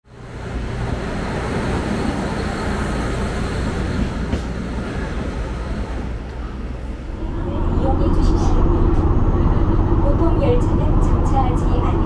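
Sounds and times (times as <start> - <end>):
train wheels rumbling: 0.1 - 12.0.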